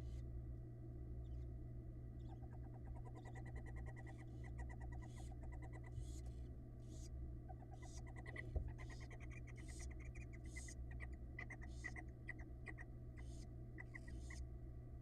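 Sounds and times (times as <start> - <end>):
steady low hum: 0.0 - 15.0
owl chicks chittering peeps: 1.2 - 14.5.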